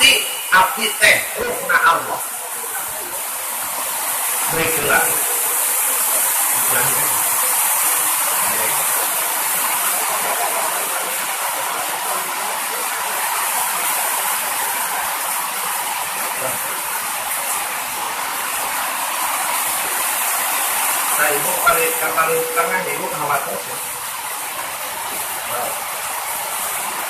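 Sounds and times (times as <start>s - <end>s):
heavy rain on a corrugated roof: 0.0s - 27.0s.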